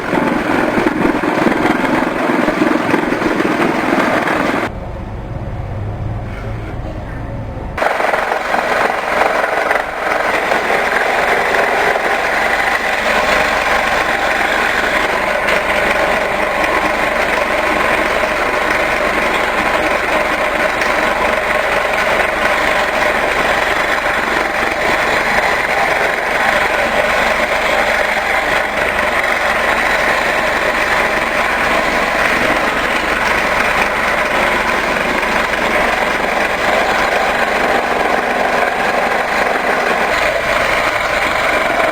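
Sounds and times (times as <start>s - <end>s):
power tool running under load: 7.8s - 41.9s.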